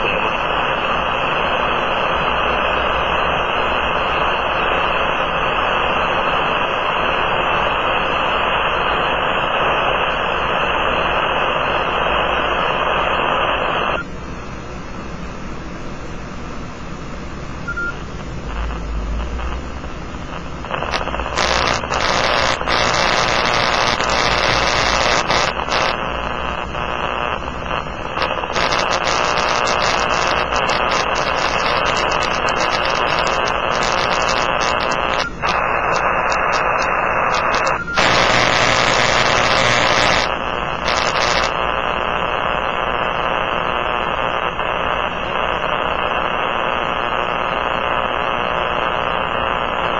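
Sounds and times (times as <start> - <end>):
radio static hiss with crackles: 0.0 - 49.9.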